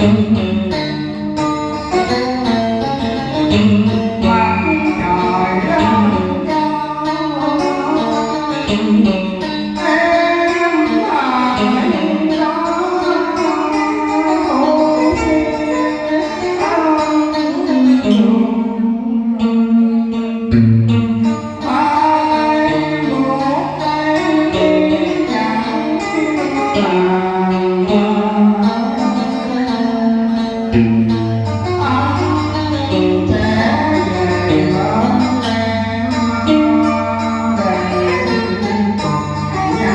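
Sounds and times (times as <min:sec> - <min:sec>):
song with bending melody: 0:00.0 - 0:19.4, 0:20.6 - 0:39.9
sustained bass accompaniment: 0:00.0 - 0:39.9.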